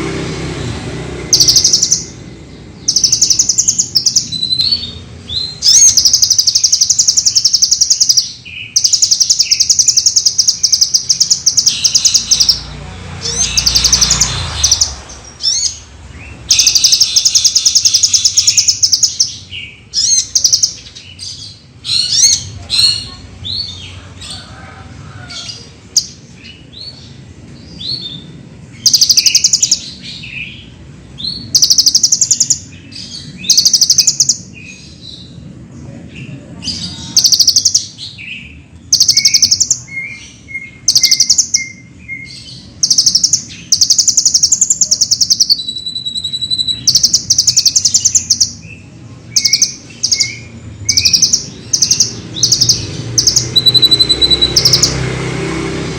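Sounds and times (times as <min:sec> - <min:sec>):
sunbird chattering chirps: 0:01.2 - 0:24.5, 0:25.4 - 0:35.4, 0:36.2 - 0:55.2.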